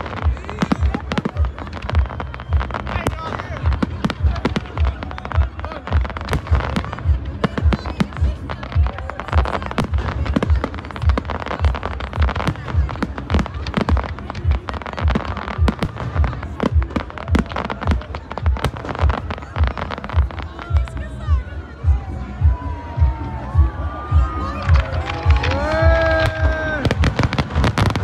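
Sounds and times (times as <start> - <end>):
fireworks crackle: 0.0 - 21.3, 24.1 - 28.0
fireworks bursting with deep bangs: 0.0 - 28.0.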